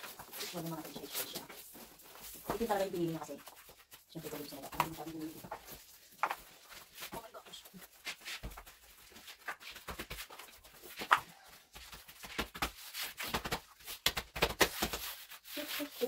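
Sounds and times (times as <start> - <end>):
foam mats tapping and rubbing: 0.0 - 16.0.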